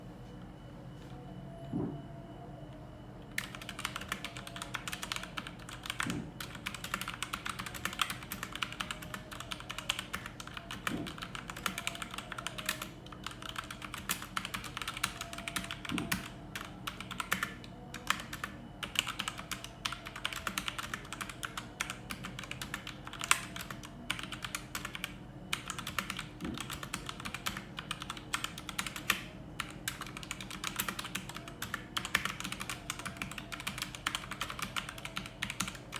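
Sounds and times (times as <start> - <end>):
fast typing on mechanical keyboard: 3.4 - 35.9.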